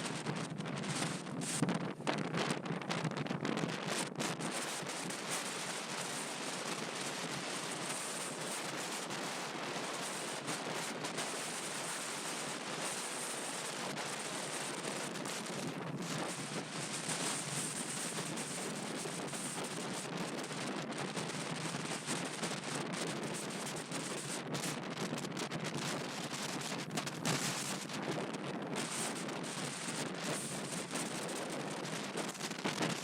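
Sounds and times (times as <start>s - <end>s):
wind blowing across microphone: 0.0s - 33.0s.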